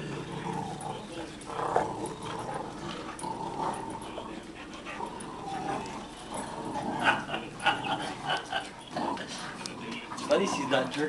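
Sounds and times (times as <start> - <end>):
dogs vocalizing: 0.0 - 11.0.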